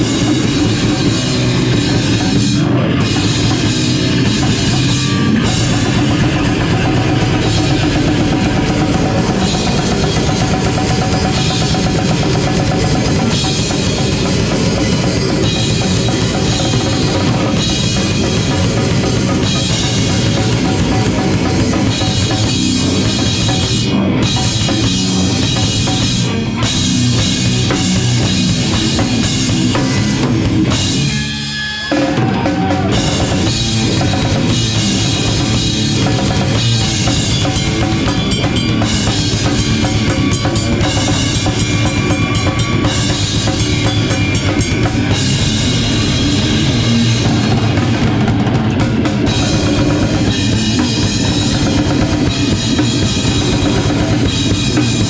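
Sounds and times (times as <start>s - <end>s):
pounding bass drum and snare: 0.0s - 55.0s
rock band playing live: 0.0s - 55.0s.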